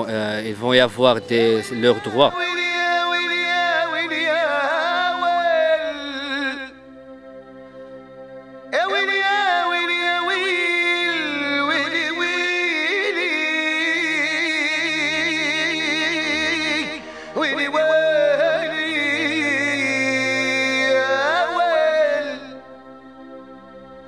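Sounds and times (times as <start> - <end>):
person singing ornamented phrases: 0.0 - 6.8, 8.7 - 23.2
low held drone notes: 0.0 - 24.0.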